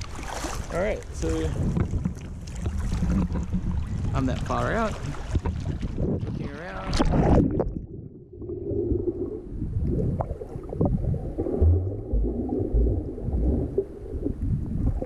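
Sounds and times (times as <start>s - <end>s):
underwater sloshing and gurgling: 0.0s - 15.0s.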